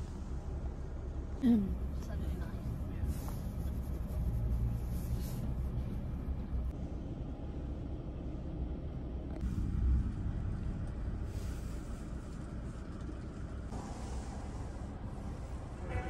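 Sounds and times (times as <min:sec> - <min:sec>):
minibus engine rumbling: 0:00.0 - 0:16.0.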